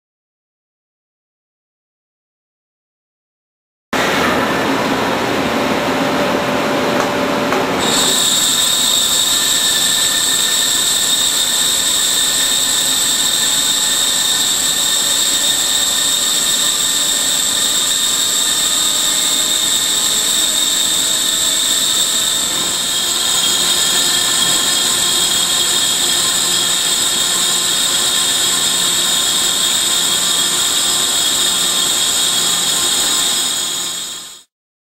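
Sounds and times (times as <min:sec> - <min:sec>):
high-pitched whine: 0:04.0 - 0:34.5
lathe machining metal: 0:04.0 - 0:34.5.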